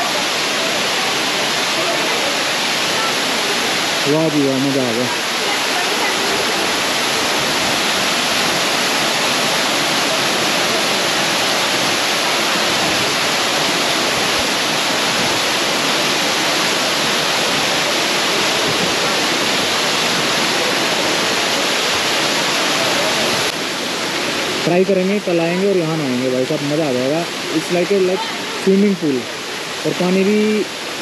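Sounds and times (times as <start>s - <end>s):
waterfall rushing and splashing: 0.0s - 31.0s.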